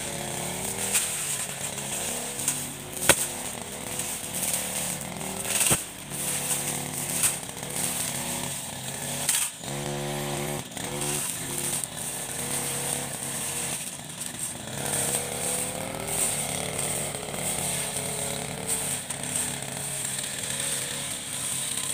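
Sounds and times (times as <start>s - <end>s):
brush cutter engine running: 0.0s - 21.9s.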